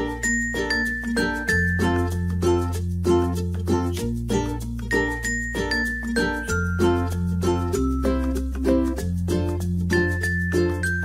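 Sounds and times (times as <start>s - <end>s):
plucked-string melody: 0.0s - 11.0s.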